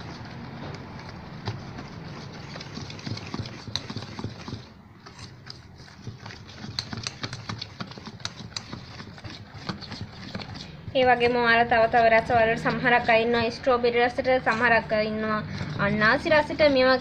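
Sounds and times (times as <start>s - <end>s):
whisk clicking and scraping in metal bowl: 0.0s - 17.0s.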